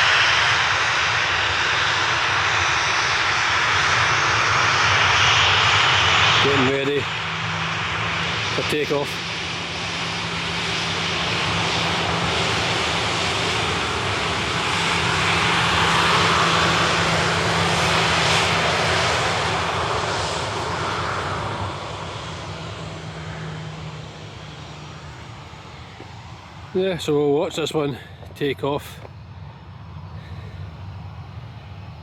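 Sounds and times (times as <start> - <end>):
jet airliner engines roaring: 0.0 - 32.0
steady low hum: 3.2 - 32.0.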